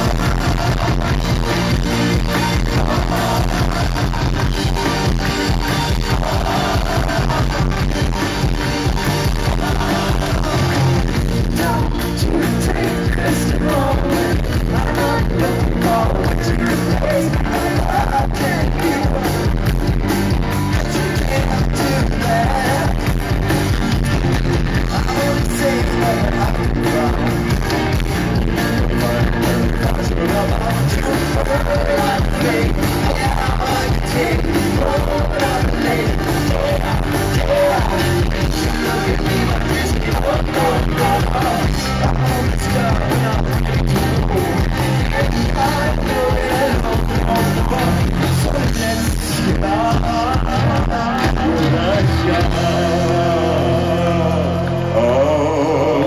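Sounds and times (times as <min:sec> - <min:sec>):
person singing: 0:00.0 - 0:20.0, 0:20.7 - 0:56.0
live rock band playing: 0:00.0 - 0:56.0.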